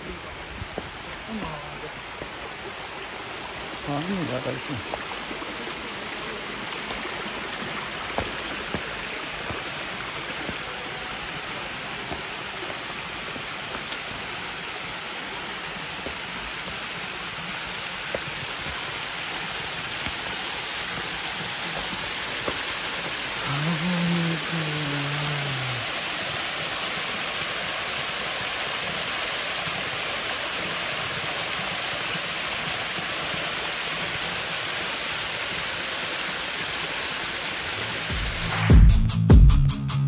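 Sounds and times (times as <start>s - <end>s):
waterfall rushing: 0.0s - 38.8s.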